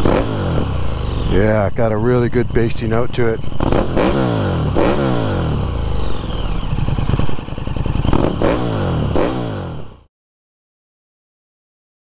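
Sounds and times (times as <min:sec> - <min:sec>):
motorcycle engine revving: 0:00.0 - 0:10.1.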